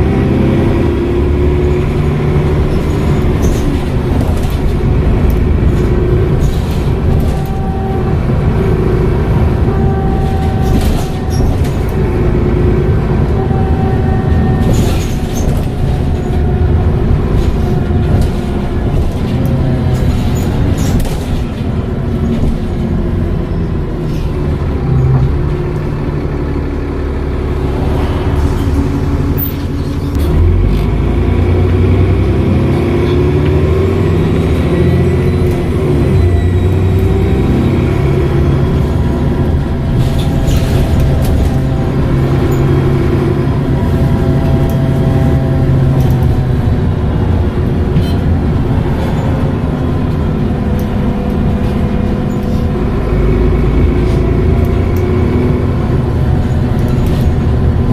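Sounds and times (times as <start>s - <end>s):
bus diesel engine pulling away: 0.0s - 57.9s.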